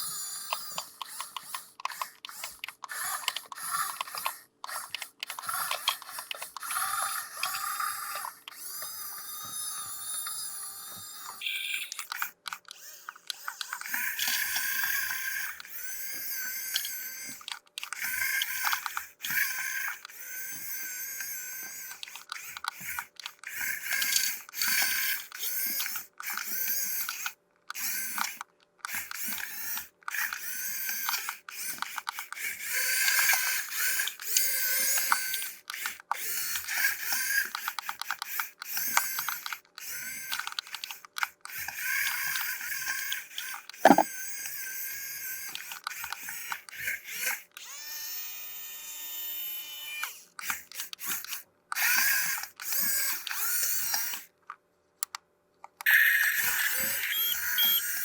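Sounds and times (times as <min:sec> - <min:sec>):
plastic toy parts clicking: 0:00.0 - 0:20.2, 0:21.2 - 0:44.6, 0:50.0 - 0:57.9.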